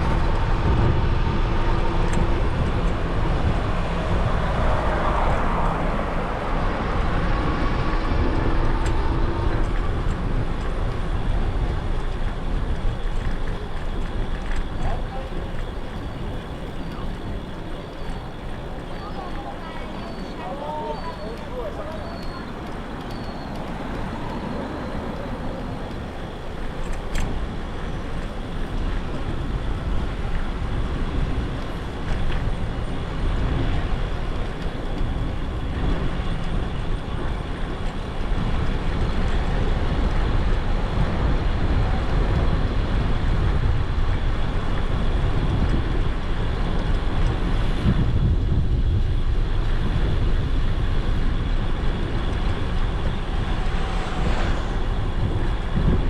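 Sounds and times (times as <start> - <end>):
road traffic: 0.0 - 42.1, 49.0 - 56.0
wind rushing over microphone: 0.0 - 56.0.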